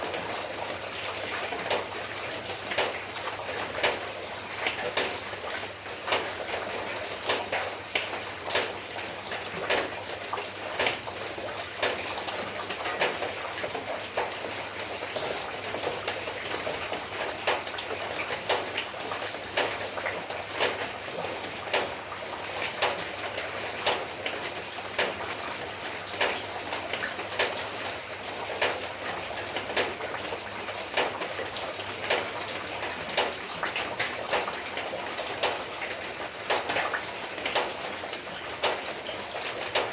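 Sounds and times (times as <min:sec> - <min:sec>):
rain falling: 0:00.0 - 0:39.9
sharp water drips: 0:00.1 - 0:39.9.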